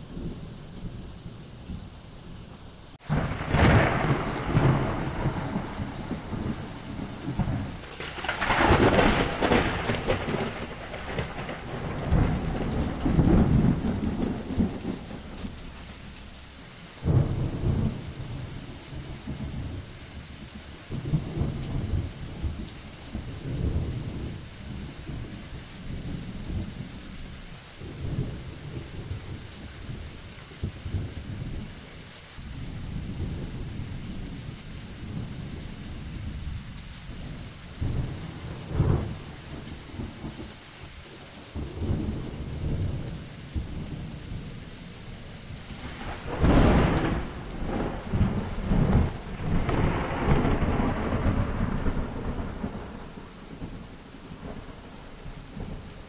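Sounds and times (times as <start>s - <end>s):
steady rain: 0.0s - 56.0s
thunder rumbling: 0.0s - 56.0s.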